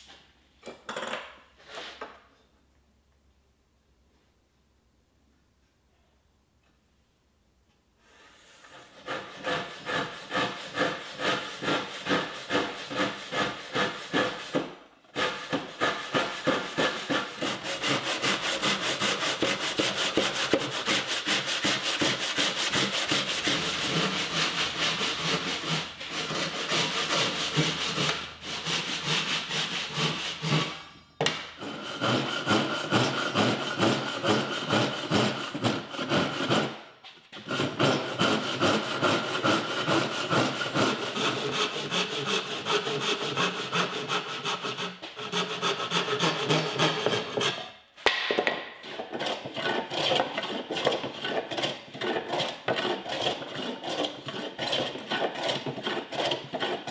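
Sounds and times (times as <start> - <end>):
hand saw cutting wood: 8.6 - 56.9.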